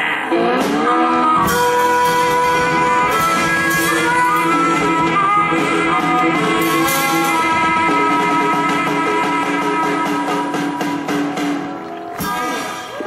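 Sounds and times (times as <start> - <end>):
drums: 0.0 - 13.0
electric guitars: 0.0 - 13.0.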